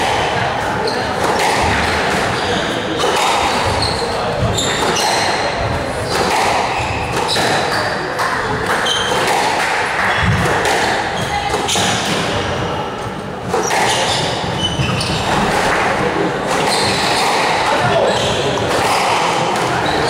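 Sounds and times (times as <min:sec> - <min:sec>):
shoes squeaking on wooden floor: 0:00.8 - 0:09.4, 0:10.0 - 0:19.1
squash ball cracking off rackets and walls: 0:01.0 - 0:12.6, 0:13.4 - 0:19.9.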